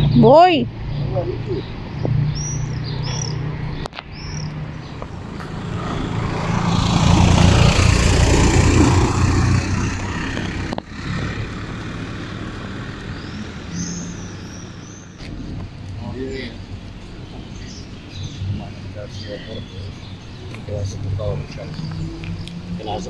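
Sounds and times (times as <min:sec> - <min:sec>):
bird chirping: 0:00.0 - 0:23.0
vehicle passing: 0:00.0 - 0:23.0.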